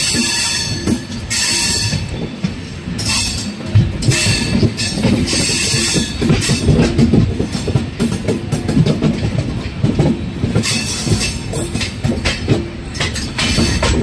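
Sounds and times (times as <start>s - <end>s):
track knocks and clacks: 0.0s - 14.0s
train wheels rumbling on rails: 0.0s - 14.0s.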